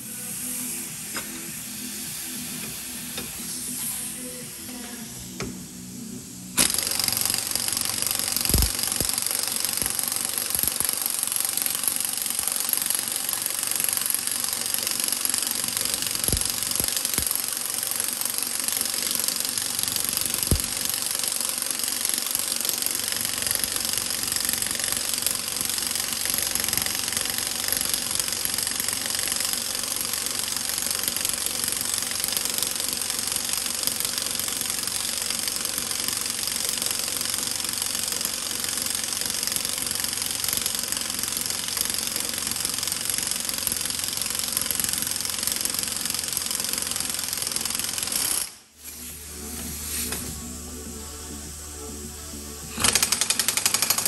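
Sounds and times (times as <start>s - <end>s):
pneumatic impact wrench hammering: 0.0s - 50.9s, 52.6s - 54.0s.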